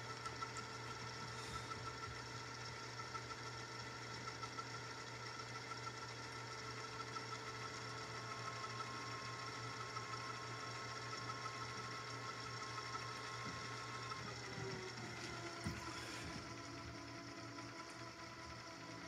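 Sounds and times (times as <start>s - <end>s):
tape rewinding motor whir: 0.0s - 19.0s.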